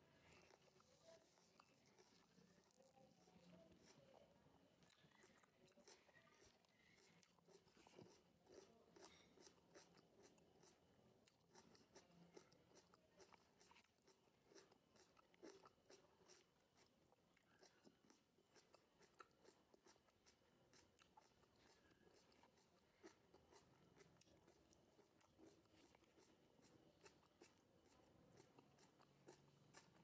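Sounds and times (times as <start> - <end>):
chewing tomato wet crunches: 0.1 - 30.0.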